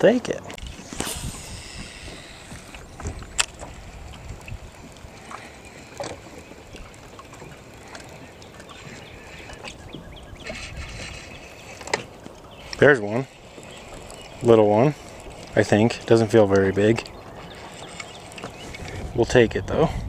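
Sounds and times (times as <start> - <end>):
low steady boat rumble: 0.0 - 20.0.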